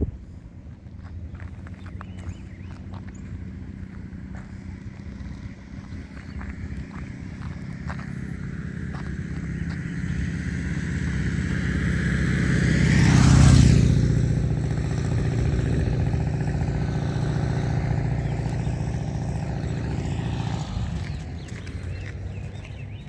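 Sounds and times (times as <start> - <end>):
vehicle driving past: 0.0 - 23.0.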